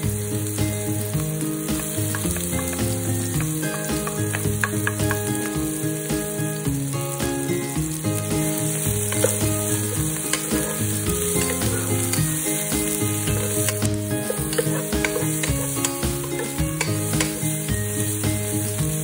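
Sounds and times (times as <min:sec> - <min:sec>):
aromatics sizzling in hot oil: 0:00.0 - 0:19.0
background music: 0:00.0 - 0:19.0
wooden spoon stirring: 0:01.1 - 0:05.8, 0:08.0 - 0:19.0.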